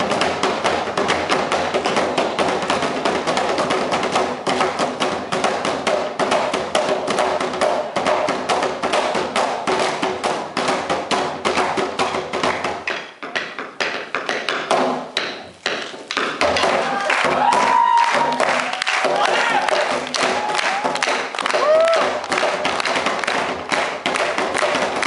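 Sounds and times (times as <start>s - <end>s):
drumsticks beating plastic barrels: 0.0s - 25.0s.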